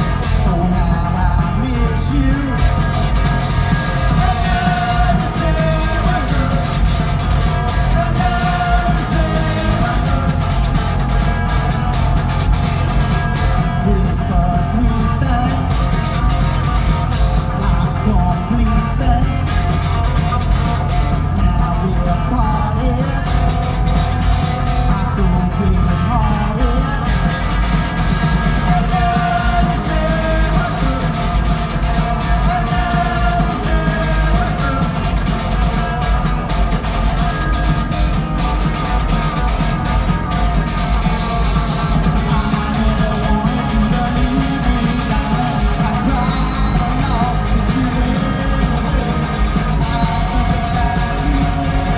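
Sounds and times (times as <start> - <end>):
person singing: 0.0 - 16.5, 17.4 - 20.2, 20.8 - 27.7, 28.4 - 36.4, 41.8 - 51.9
live rock band playing: 0.0 - 51.9.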